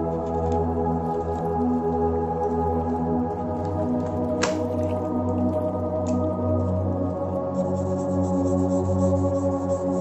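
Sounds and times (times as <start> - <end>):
ambient keyboard chords: 0.0 - 10.0.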